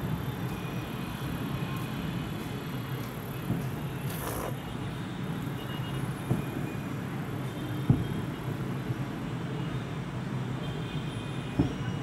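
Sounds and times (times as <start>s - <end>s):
low rumble of fireworks: 0.0s - 12.0s.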